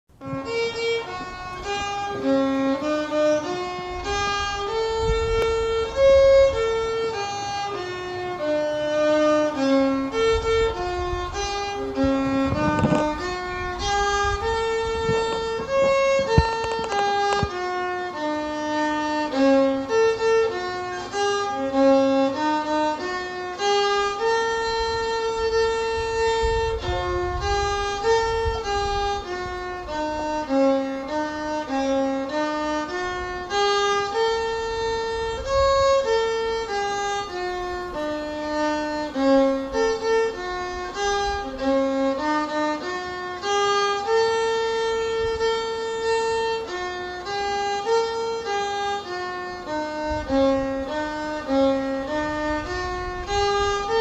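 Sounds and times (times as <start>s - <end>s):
slow melody of held notes: 0.2s - 54.0s.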